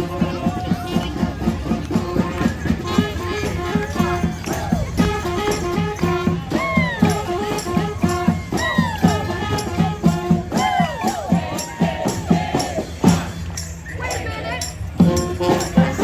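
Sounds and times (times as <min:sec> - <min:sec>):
steady drum beat: 0:00.0 - 0:16.0
street band horns: 0:00.0 - 0:16.0.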